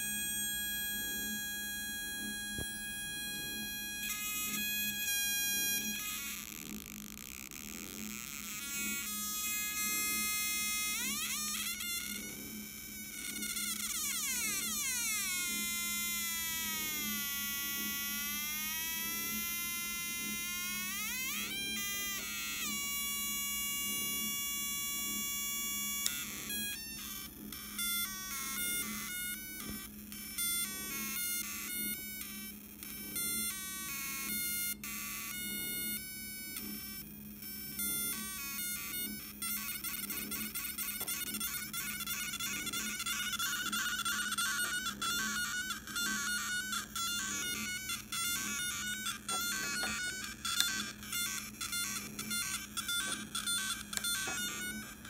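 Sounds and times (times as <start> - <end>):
harsh buzzing synthesizer tones: 0.0 - 55.0.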